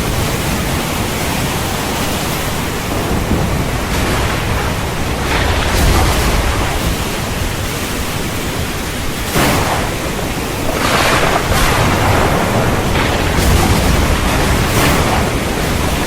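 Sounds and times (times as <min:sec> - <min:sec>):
heavy rain pouring: 0:00.0 - 0:16.0
low rumble of thunder: 0:02.5 - 0:16.0.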